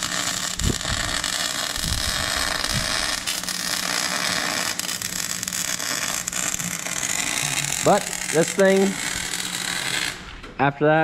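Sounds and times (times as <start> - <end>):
arc welding crackling hiss: 0.0 - 10.4.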